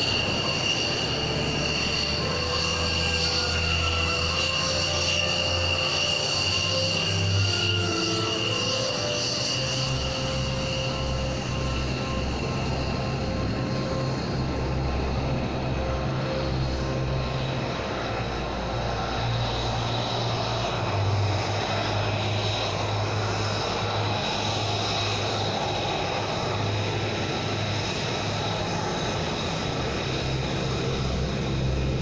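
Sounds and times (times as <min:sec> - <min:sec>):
aircraft engines with high whine: 0:00.0 - 0:32.0.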